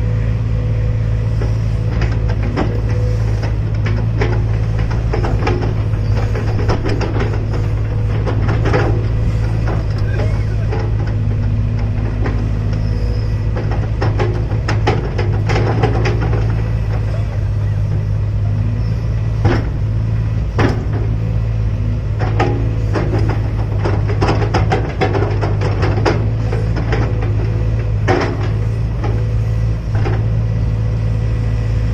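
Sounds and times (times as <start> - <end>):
excavator engine running: 0.0 - 31.9
machine knocks and clanks: 1.3 - 18.6, 19.2 - 30.6.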